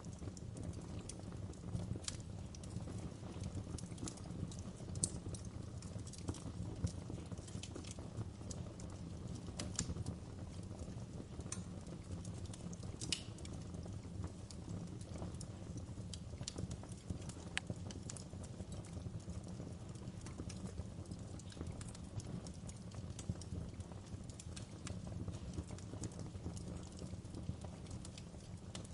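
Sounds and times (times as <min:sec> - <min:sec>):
low rumble of flames: 0:00.0 - 0:28.9
wood fire crackling: 0:00.0 - 0:28.9.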